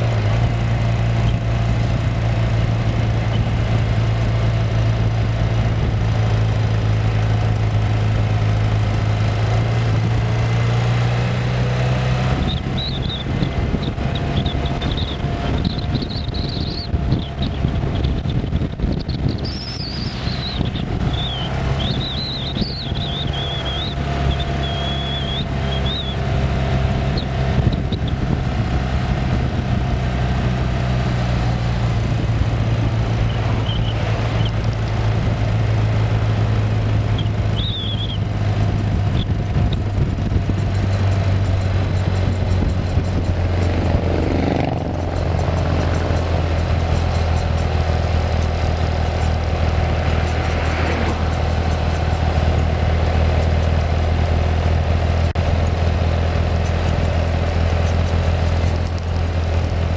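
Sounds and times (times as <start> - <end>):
motorcycle engine cruising: 0.0 - 59.9
wind and road rush: 0.0 - 59.9.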